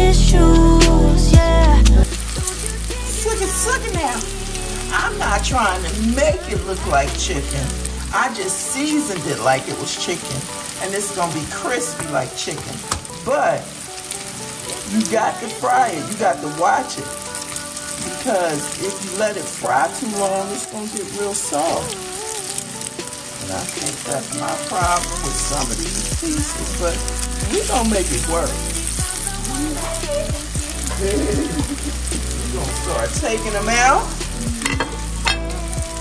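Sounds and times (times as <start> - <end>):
food sizzling in oil: 0.0 - 36.0.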